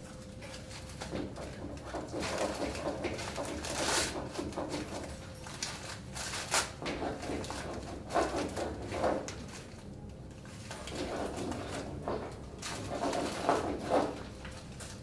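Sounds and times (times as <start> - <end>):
low room hum: 0.0 - 15.0
paper and cardboard crinkling: 0.1 - 15.0.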